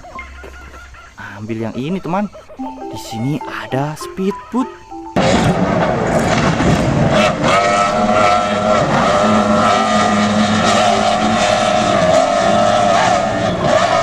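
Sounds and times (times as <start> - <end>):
speedboat engine drone: 0.0 - 14.0.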